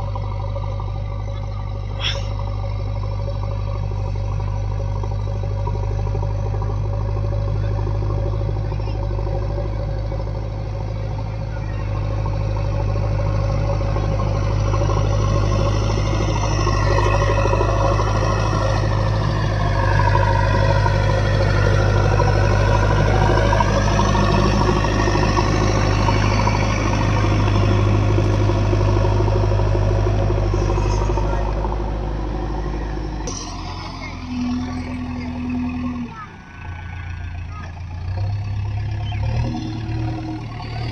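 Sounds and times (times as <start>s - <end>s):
high-pitched whine: 0.0s - 36.2s
diesel engine humming: 0.0s - 40.9s.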